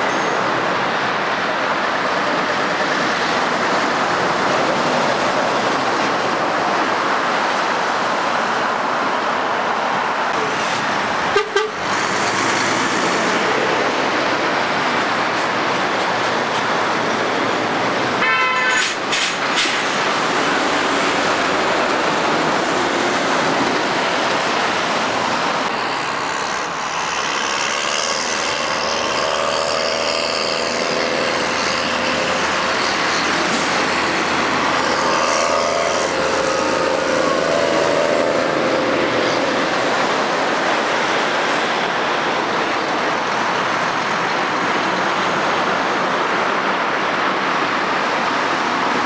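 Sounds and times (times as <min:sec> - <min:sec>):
diesel truck engines: 0:00.0 - 0:49.0.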